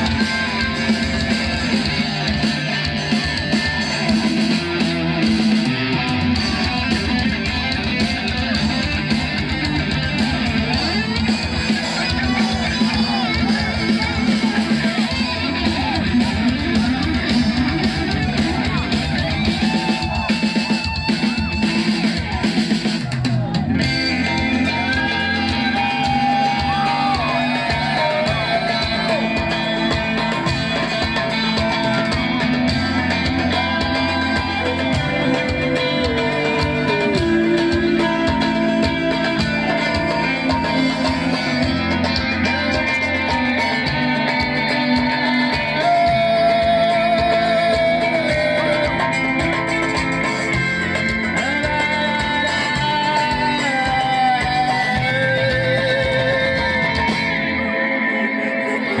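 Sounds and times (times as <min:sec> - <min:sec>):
electric guitar: 0:00.0 - 0:59.0
live rock band playing: 0:00.0 - 0:59.0
person singing: 0:00.0 - 0:59.0.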